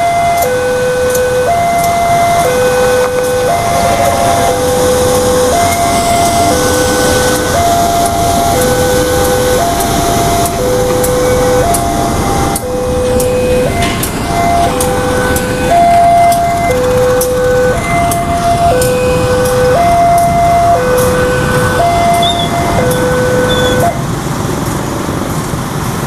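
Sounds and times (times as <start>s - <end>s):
two-tone crossing alarm: 0.0s - 24.0s
diesel locomotive engine: 0.0s - 26.0s.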